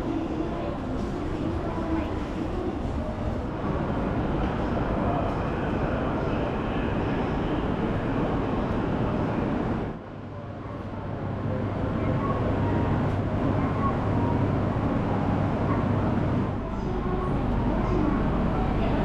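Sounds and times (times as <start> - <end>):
low rumble of trains: 0.0 - 19.0
station hall noise: 0.0 - 19.0.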